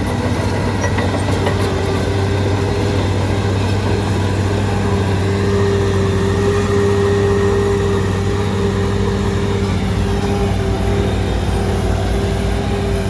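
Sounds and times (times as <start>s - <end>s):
bulldozer diesel engine running: 0.0s - 13.0s
constant whine: 0.0s - 13.0s.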